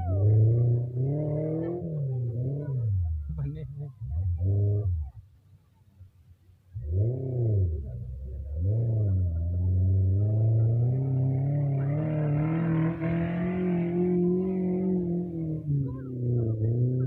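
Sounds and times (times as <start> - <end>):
off-road engine revving: 0.0 - 5.3, 6.7 - 17.0.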